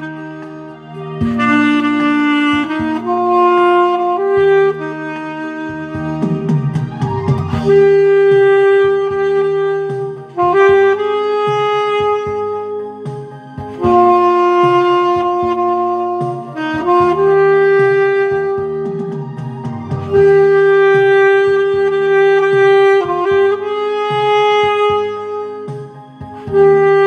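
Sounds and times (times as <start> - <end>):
backing track with bass line: 0.0 - 27.0
saxophone slow melody: 0.0 - 27.0.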